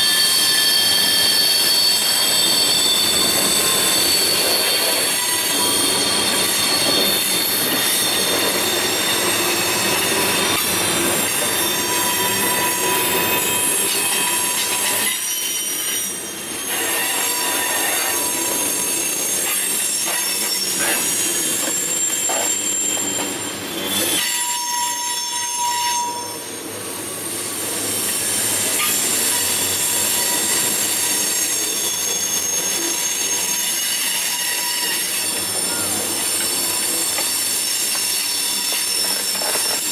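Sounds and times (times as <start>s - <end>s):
railroad cars rolling rumble: 0.0s - 39.9s
train wheels squealing on rails: 0.0s - 39.9s.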